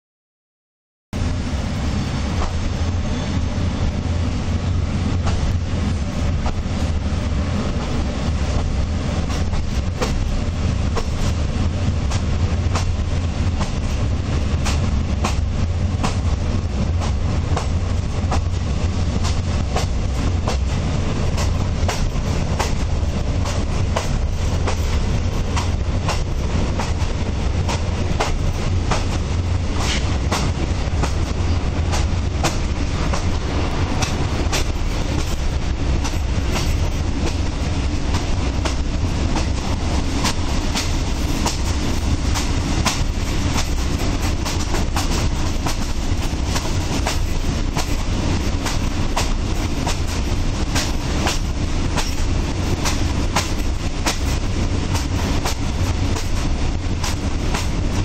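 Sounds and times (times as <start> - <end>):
train wheels rumbling: 1.2 - 58.0.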